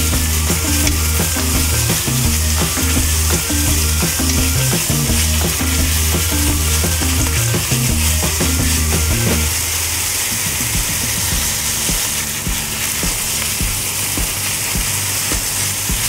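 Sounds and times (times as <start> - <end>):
food sizzling in a frying pan: 0.0 - 15.9
background music with bass: 0.0 - 16.0.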